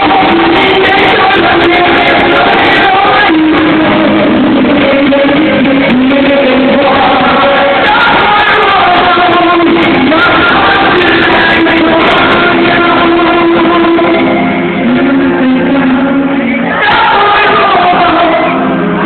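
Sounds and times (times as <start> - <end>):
live pop band: 0.0 - 19.0
person singing long notes: 0.0 - 19.0.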